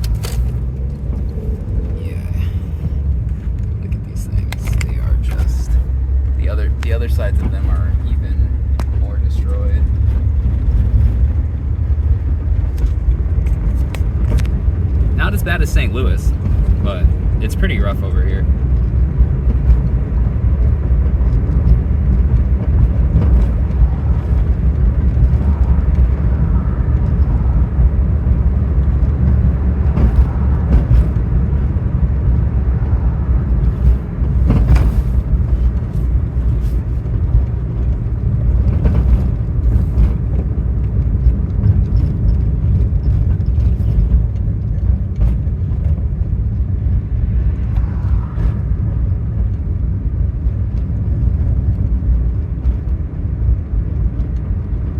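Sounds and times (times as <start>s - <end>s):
car road noise rumble: 0.0s - 54.9s.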